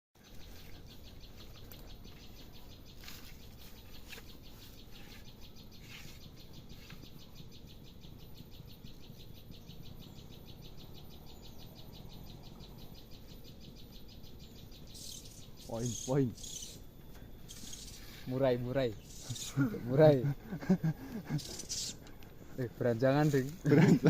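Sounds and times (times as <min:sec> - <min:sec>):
bird chirps: 0:00.2 - 0:24.0
pulsing insect chorus: 0:00.2 - 0:24.0.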